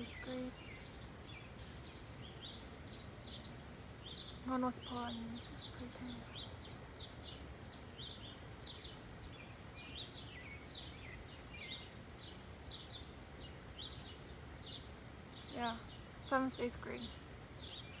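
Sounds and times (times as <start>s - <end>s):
low background noise: 0.0s - 18.0s
small birds chirping: 0.0s - 18.0s.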